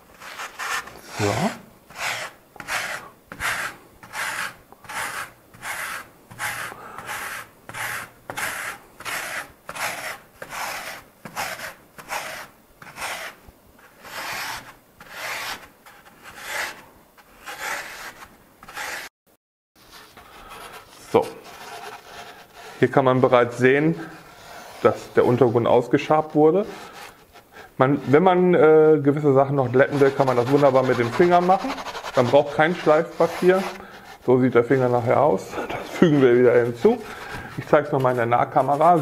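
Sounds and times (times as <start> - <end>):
scraper rasping foam board: 0.0 - 19.1, 19.8 - 22.9, 24.0 - 25.7, 26.6 - 28.2, 29.6 - 35.3, 36.0 - 39.0.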